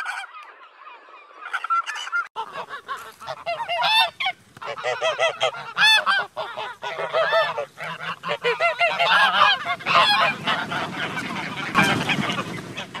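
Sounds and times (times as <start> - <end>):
goose honking: 0.0 - 13.0.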